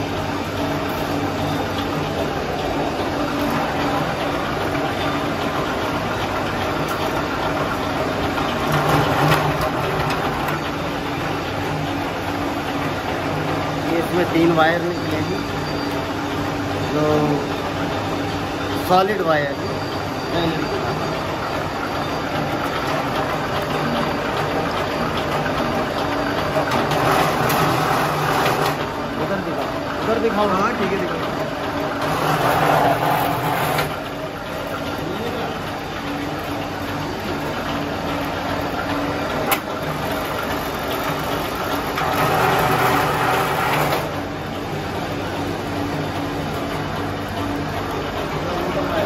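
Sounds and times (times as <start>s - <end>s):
wire stripping machine humming: 0.0s - 49.0s.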